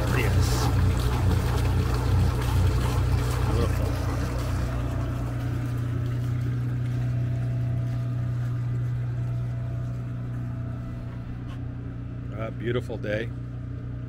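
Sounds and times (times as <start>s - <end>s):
generator humming: 0.0s - 14.0s.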